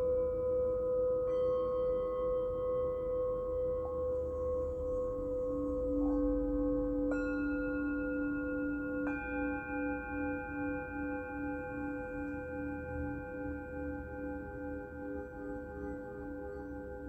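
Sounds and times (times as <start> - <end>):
bowl struck: 0.0 - 17.0
singing bowls ringing: 0.0 - 17.0.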